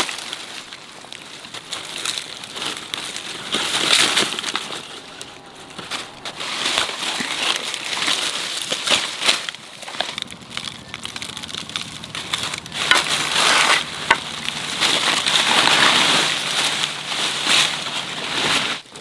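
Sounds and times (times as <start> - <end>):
crunching and rustling: 0.0 - 19.0.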